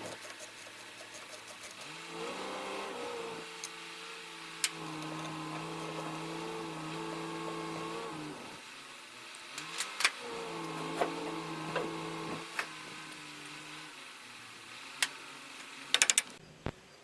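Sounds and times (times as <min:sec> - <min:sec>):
small electric motor running: 0:00.0 - 0:16.2.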